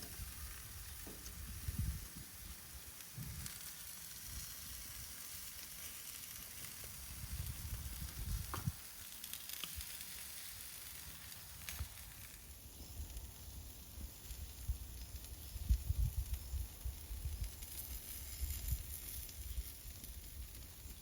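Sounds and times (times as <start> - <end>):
shrimp sizzling on a grill: 0.0 - 21.0.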